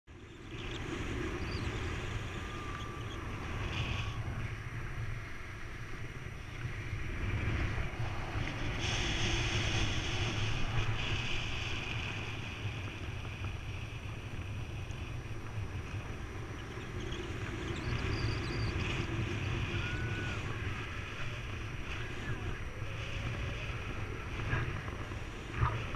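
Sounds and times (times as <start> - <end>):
wind rushing over microphone: 0.1 - 25.9.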